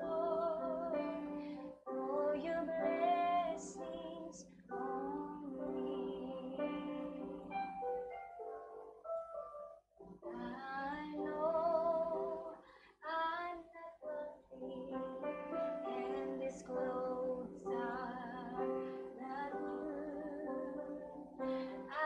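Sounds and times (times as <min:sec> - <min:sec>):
woman singing: 0:00.0 - 0:07.7, 0:10.2 - 0:22.0
digital piano notes: 0:00.0 - 0:12.6, 0:14.0 - 0:22.0.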